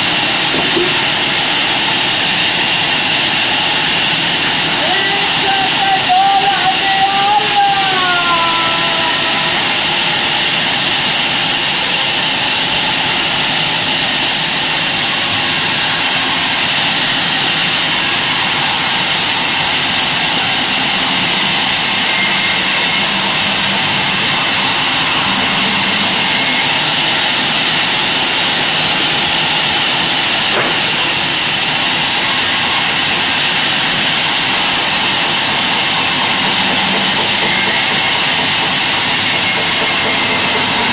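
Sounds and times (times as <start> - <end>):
band saw cutting timber: 0.0 - 40.9.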